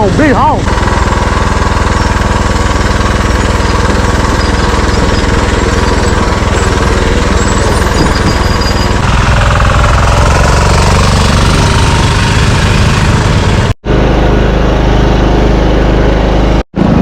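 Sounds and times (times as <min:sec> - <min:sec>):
lawn mower engine rattling: 0:00.0 - 0:17.0.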